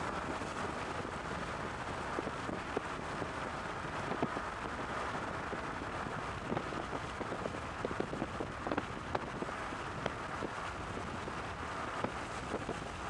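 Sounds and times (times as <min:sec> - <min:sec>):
moving vehicle: 0:00.0 - 0:13.0.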